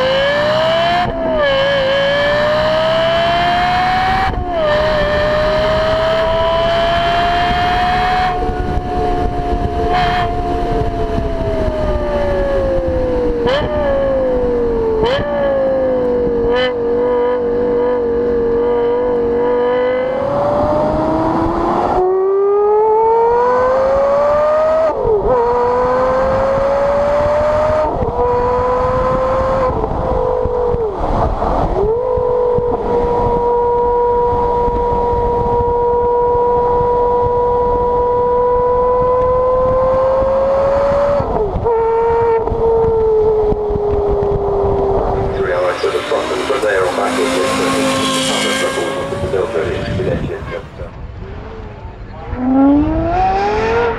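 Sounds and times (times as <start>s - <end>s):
car exhaust accelerating through gears: 0.0s - 53.9s
car exhaust slowing with downshifts: 0.0s - 53.9s.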